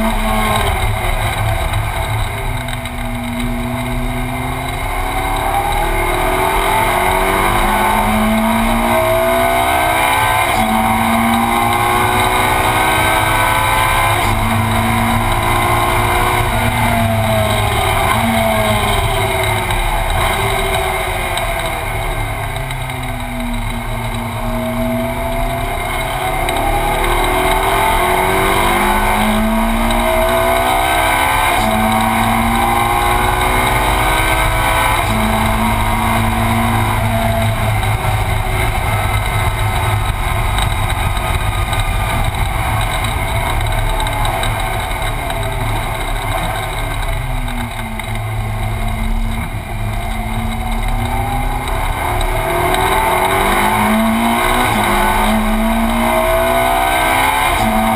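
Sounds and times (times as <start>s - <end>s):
racing car engine revving: 0.0s - 57.9s.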